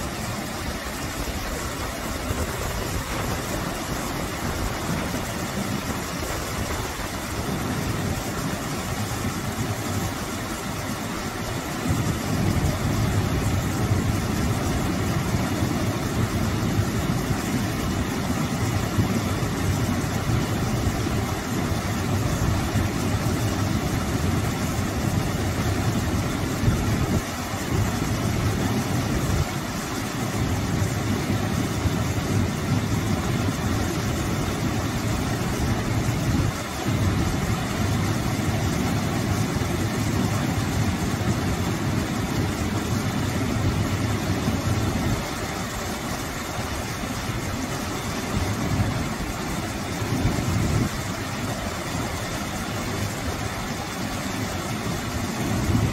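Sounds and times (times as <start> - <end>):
small waterfall splashing into pool: 0.0 - 55.9.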